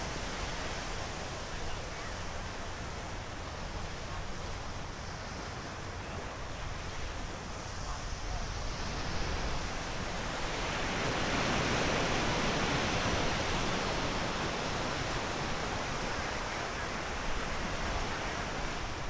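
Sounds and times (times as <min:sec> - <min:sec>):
small waves breaking on a beach: 0:00.0 - 0:19.0.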